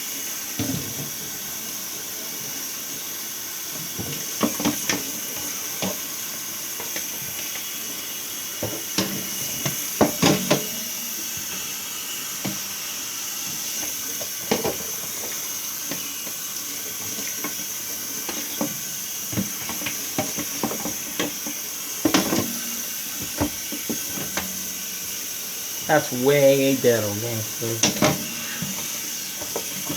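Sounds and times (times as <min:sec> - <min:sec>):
water running from tap: 0:00.0 - 0:29.9.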